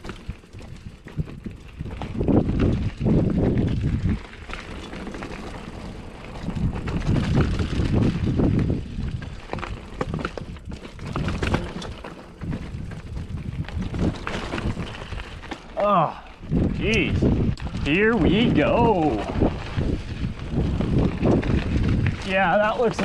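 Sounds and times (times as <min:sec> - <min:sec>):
bike rattling over rock: 0:00.0 - 0:23.0
wind buffeting microphone: 0:00.0 - 0:23.0.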